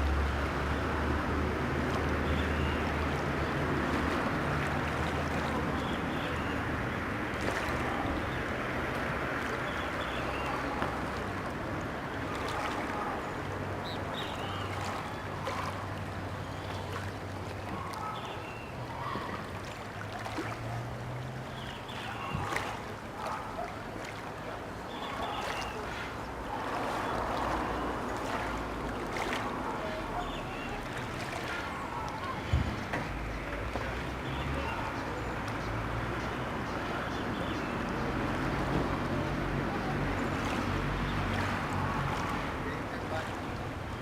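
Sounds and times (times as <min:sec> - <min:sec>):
motorboat engine humming: 0:00.0 - 0:44.0.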